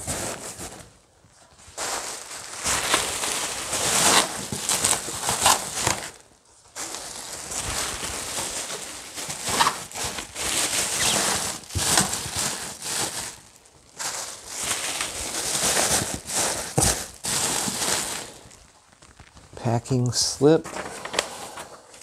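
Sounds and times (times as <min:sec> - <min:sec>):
bubble wrap rustling and crinkling: 0:00.0 - 0:22.0.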